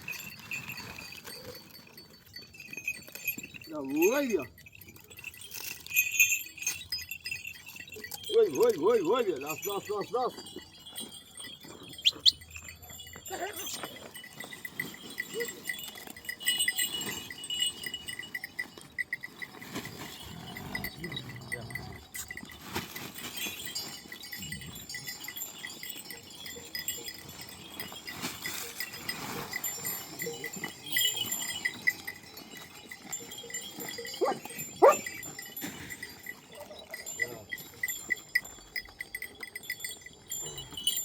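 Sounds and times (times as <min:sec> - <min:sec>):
animal neck bells clinking: 0:00.0 - 0:41.0.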